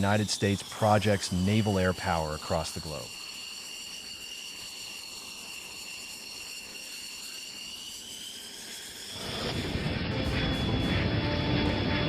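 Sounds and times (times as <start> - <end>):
jet engine whining: 0.0 - 12.0.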